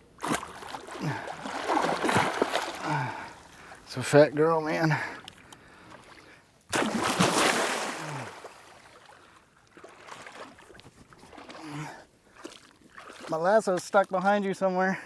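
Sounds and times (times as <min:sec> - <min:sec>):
water sloshing and trickling: 0:00.0 - 0:14.7
water splashing: 0:00.2 - 0:14.4.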